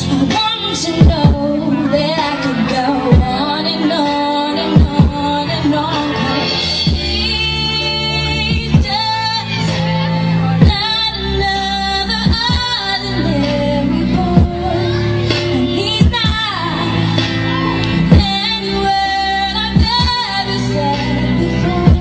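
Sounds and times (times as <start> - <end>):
backing music: 0.0 - 22.0
young woman singing pop song: 0.0 - 22.0.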